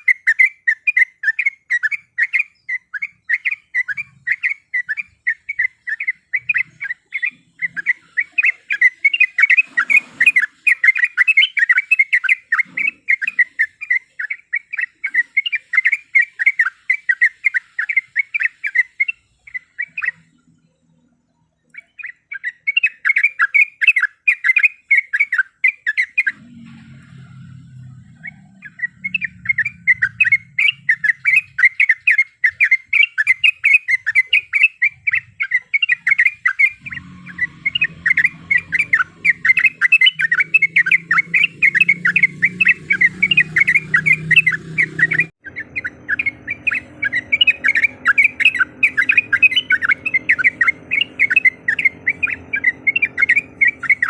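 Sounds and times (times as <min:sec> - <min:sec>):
bird chattering calls: 0:00.0 - 0:20.4, 0:27.4 - 0:54.0.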